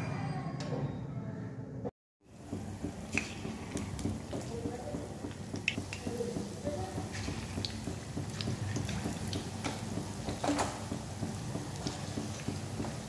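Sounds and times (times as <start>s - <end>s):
batter deep-frying in oil: 2.2s - 13.0s.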